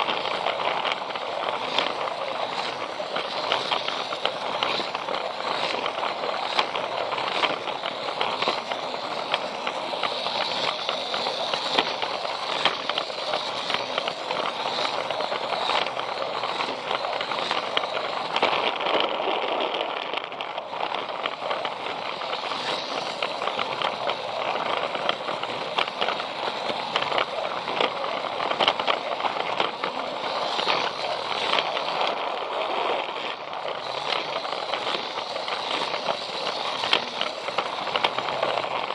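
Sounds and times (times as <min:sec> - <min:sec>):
toy train rattling on plastic track: 0:00.0 - 0:38.9.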